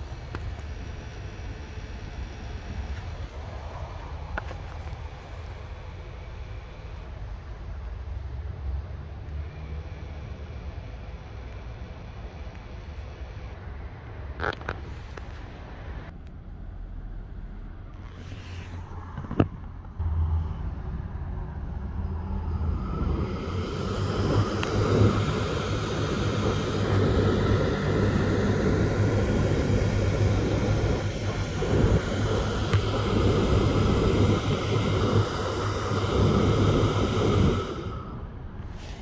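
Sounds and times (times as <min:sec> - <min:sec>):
cooling fan whirring: 0:00.0 - 0:16.6, 0:18.8 - 0:39.0.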